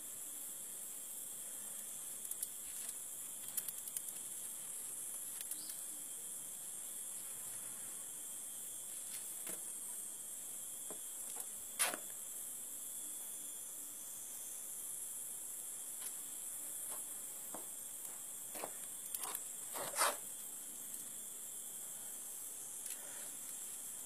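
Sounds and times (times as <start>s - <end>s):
insects droning in grass: 0.0s - 24.0s.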